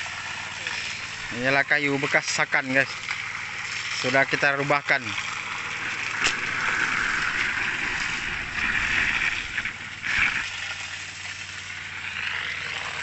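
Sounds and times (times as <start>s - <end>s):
pump engine running: 0.0s - 13.0s
slurry gushing and splashing into water: 0.0s - 13.0s.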